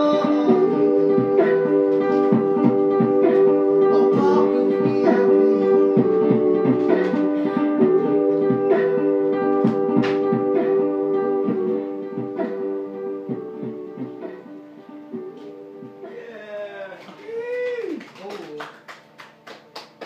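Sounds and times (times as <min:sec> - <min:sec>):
strummed string instrument chords: 0:00.0 - 0:16.2.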